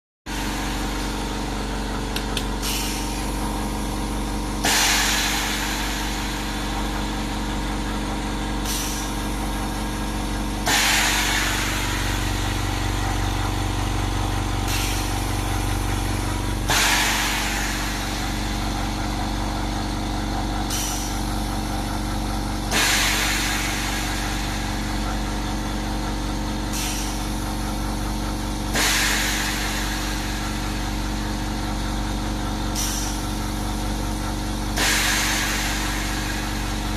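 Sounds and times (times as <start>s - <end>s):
air hissing: 0.3s - 36.9s.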